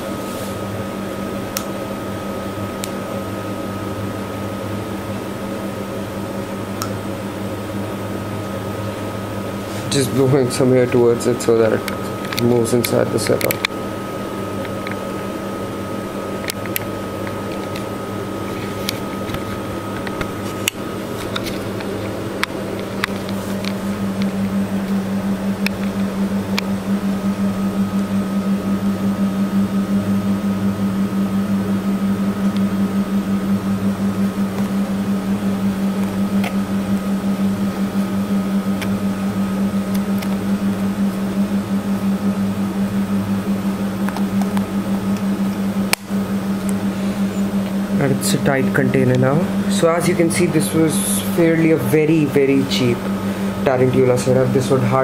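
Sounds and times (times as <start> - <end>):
appliance humming: 0.0 - 55.0
faint high whine: 0.0 - 55.0.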